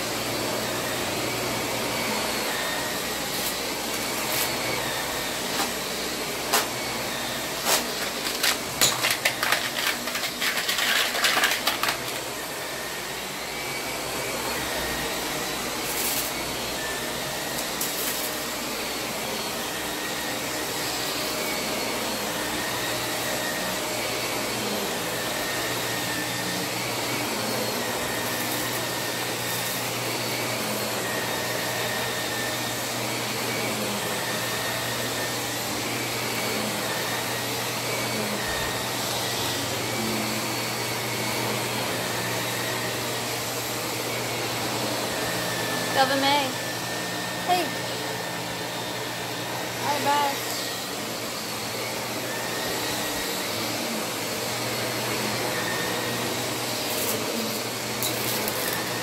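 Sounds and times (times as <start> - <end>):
vacuum cleaner running on carpet: 0.0 - 59.0.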